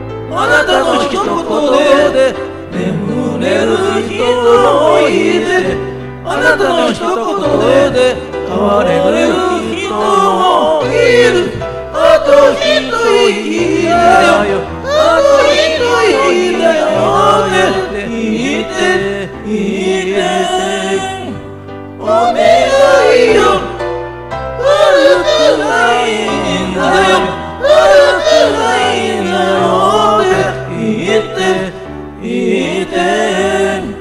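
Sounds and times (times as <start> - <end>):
voices singing in harmony: 0.2 - 34.0.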